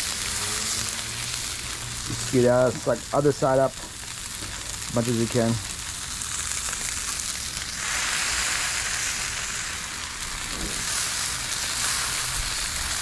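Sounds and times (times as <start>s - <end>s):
fish searing on a griddle: 0.0s - 13.0s.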